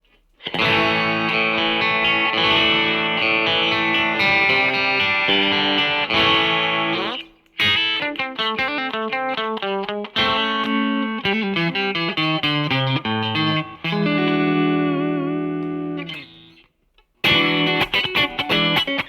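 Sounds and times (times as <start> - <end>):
electric guitar playing: 0.3 - 19.0.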